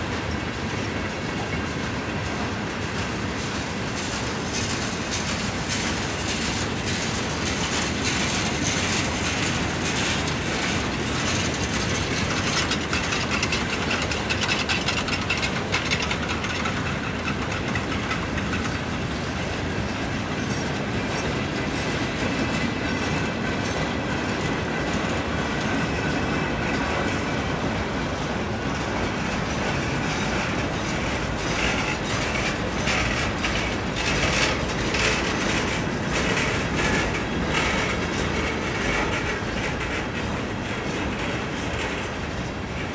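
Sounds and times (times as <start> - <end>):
train cars rolling past: 0.0 - 42.9
wheels clicking over rail joints: 0.0 - 42.9.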